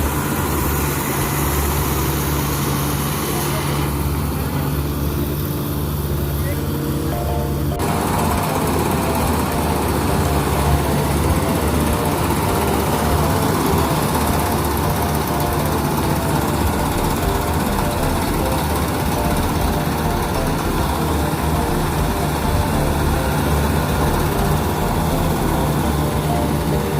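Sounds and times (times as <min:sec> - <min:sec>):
combine harvester running: 0:00.0 - 0:26.9
steady high machine tone: 0:00.0 - 0:26.9.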